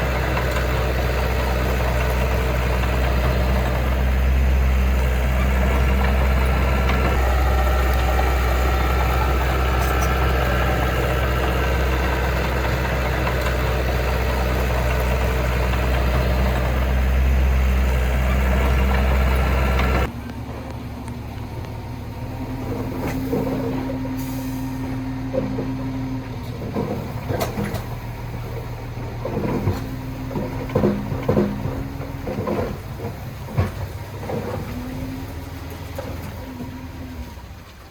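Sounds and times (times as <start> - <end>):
heavy diesel engine humming: 0.0 - 37.9
quieter engine: 0.0 - 37.9.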